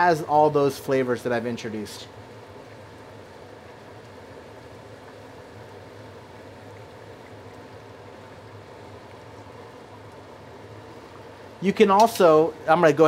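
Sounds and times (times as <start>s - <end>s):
sauce simmering with hiss: 0.0s - 13.0s.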